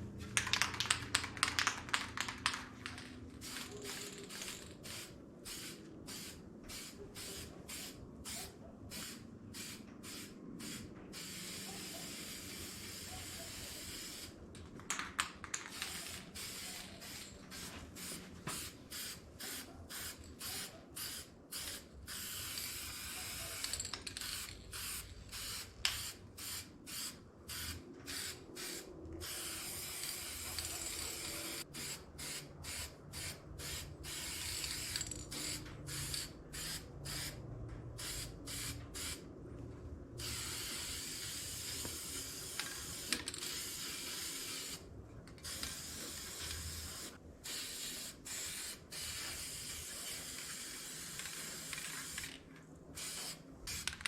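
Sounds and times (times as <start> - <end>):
spray paint hissing: 2.9 - 14.4, 15.6 - 37.4, 38.0 - 39.2, 40.2 - 44.8, 45.4 - 52.3, 53.0 - 54.0.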